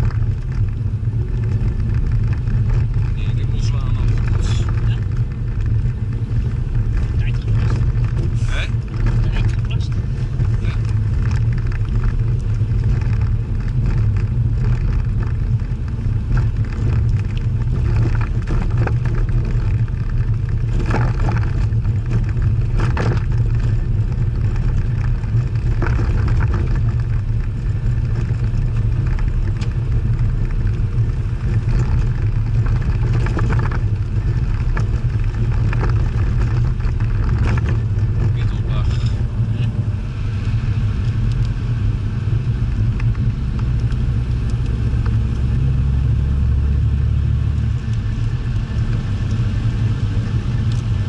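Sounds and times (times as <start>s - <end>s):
car engine running: 0.0s - 51.0s
road noise: 0.0s - 51.0s.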